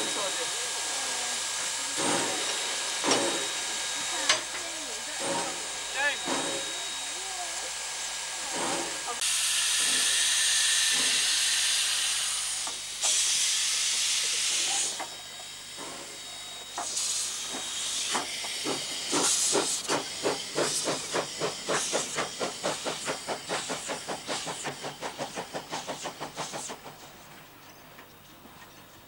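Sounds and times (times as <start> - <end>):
steam hissing: 0.0 - 27.3
steam locomotive chuffing: 0.0 - 28.0.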